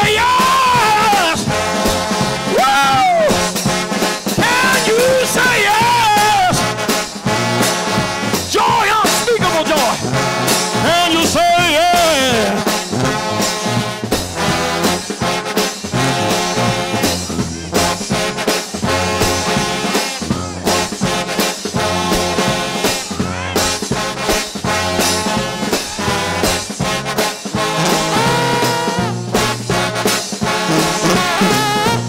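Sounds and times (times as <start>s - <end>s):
percussion: 0.0s - 32.0s
trombone band playing gospel: 0.0s - 32.0s.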